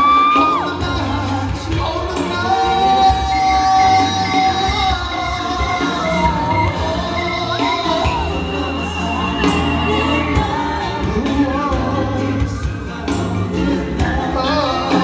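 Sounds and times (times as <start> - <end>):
live pop concert music: 0.0 - 15.0
person singing: 0.0 - 15.0.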